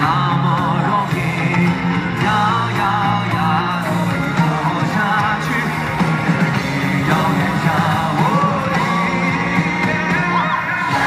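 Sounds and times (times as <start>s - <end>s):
band playing: 0.0s - 11.0s
man singing: 0.0s - 11.0s.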